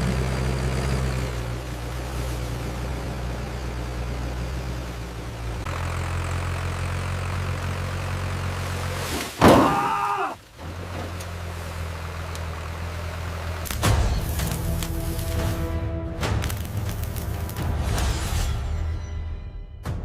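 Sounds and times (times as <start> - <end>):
tractor engine running: 0.0 - 9.4, 10.4 - 18.0.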